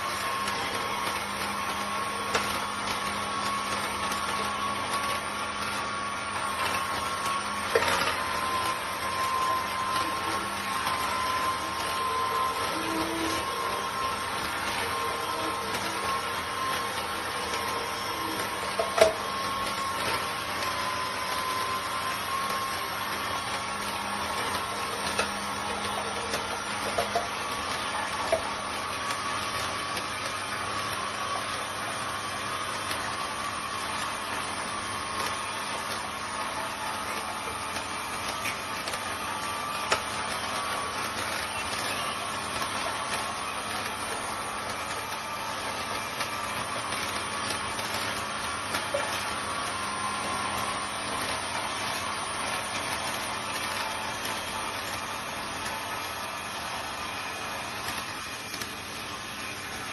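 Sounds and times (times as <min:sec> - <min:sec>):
juicer motor humming: 0:00.0 - 0:59.9.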